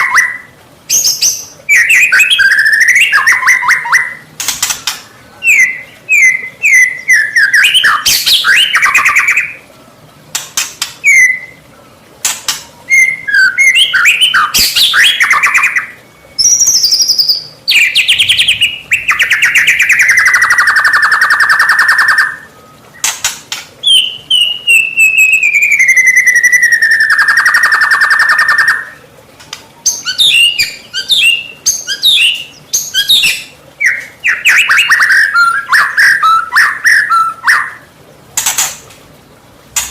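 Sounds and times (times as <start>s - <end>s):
bird singing: 0.0s - 37.9s.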